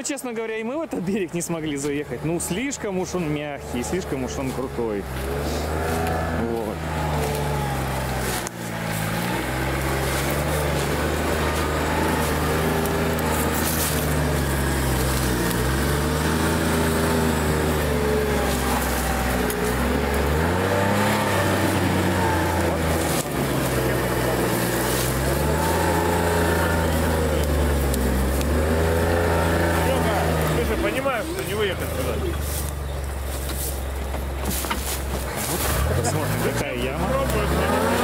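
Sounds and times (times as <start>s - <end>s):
all-terrain vehicle engine revving: 0.8s - 38.0s.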